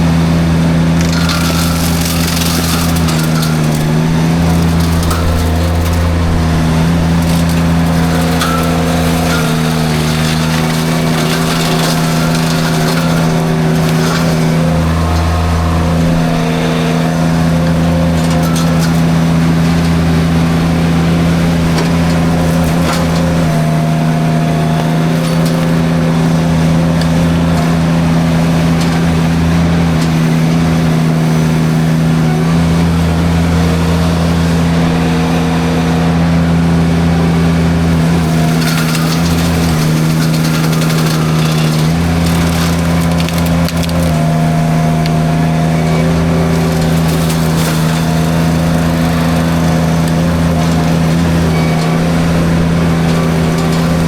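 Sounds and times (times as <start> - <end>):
mulcher crackling through brush: 0.0 - 54.0
skid steer engine running: 0.0 - 54.0.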